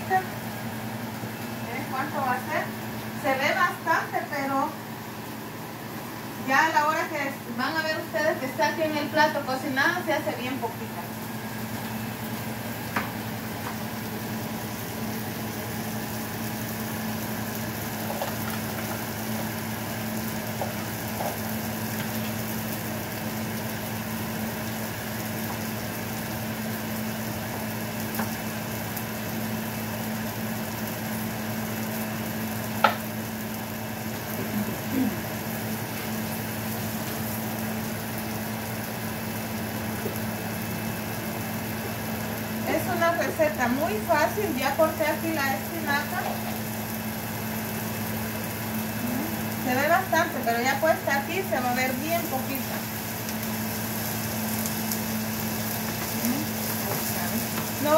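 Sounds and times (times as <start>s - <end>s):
onion and tomato sizzling in a pan: 0.0s - 57.9s
range hood fan humming: 0.0s - 57.9s.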